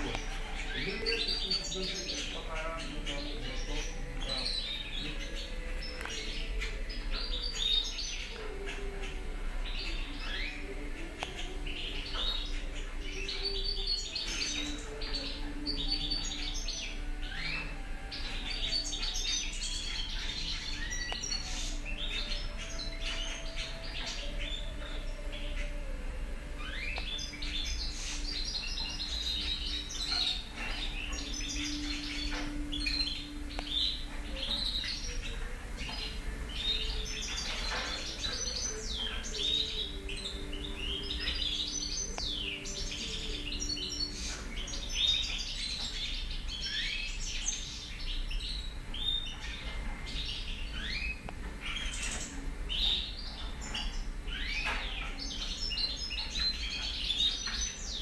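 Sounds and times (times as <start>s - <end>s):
finch twittering song: 0.0s - 58.0s.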